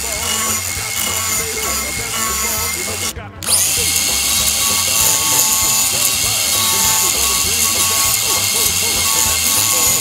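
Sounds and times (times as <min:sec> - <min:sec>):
angle grinder whining: 0:00.0 - 0:10.0
background music with singing: 0:00.0 - 0:10.0.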